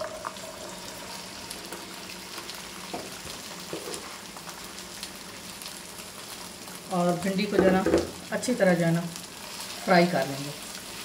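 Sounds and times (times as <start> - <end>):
okra sizzling in hot oil: 0.0 - 11.0.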